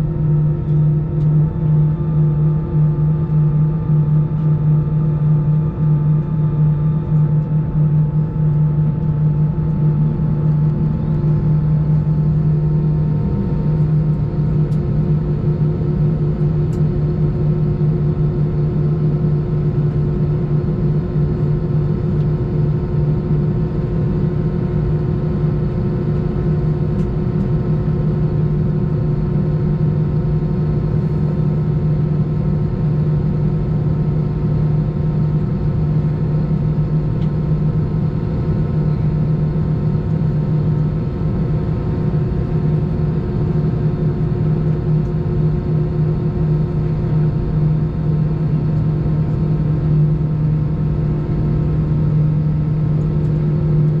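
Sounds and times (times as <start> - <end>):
aircraft cabin drone: 0.0 - 54.0.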